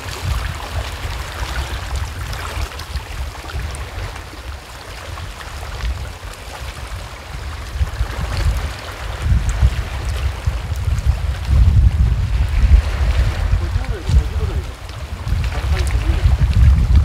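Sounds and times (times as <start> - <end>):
water lapping on rocks: 0.0 - 17.0
wind rumble on microphone: 0.0 - 17.0.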